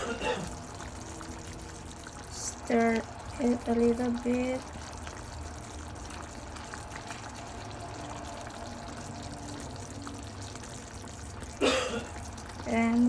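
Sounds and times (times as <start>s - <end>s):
curry simmering with bubbling: 0.0s - 13.0s.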